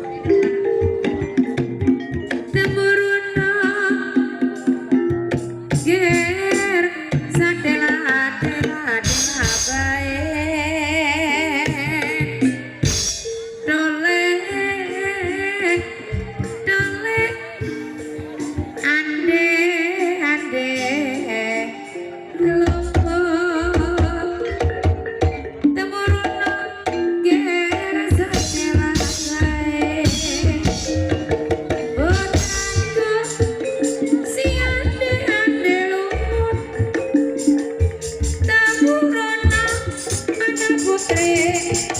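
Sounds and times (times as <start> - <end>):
drums and percussion: 0.0 - 41.9
ringing metallophone notes: 0.0 - 41.9.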